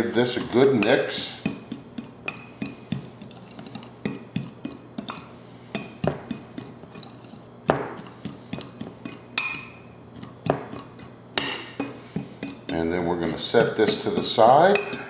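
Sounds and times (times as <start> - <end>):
utensil scraping spices in bowl: 0.0 - 15.0.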